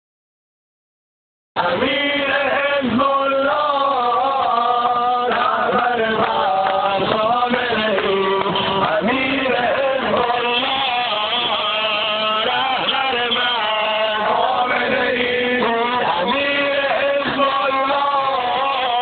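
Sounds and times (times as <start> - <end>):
men chanting a lament: 1.6 - 19.0.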